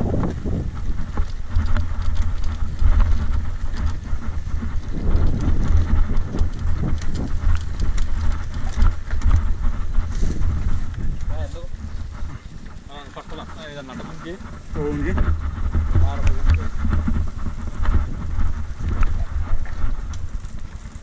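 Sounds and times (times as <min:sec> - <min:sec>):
bike rattling: 0:00.0 - 0:21.0
tyres crunching over gravel: 0:00.0 - 0:21.0
wind buffeting microphone: 0:00.0 - 0:21.0.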